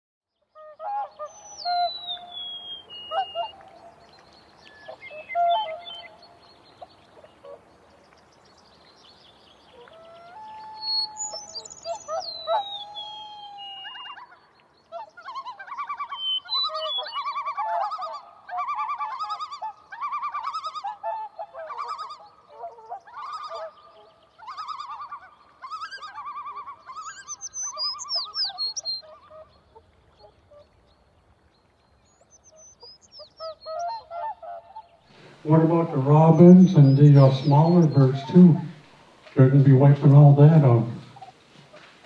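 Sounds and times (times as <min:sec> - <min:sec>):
wild birds calling: 0:00.6 - 0:30.8, 0:32.1 - 0:42.0.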